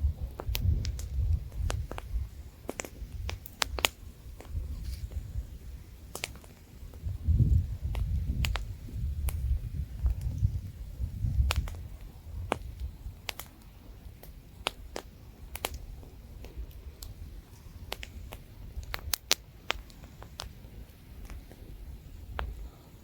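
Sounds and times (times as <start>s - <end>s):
campfire crackling and popping: 0.0s - 23.0s
low rumble of wind: 0.0s - 23.0s.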